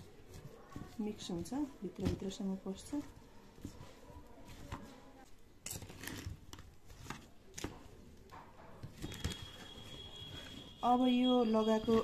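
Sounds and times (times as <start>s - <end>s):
faint squelching: 0.0s - 12.0s
plastic rustling: 0.0s - 12.0s.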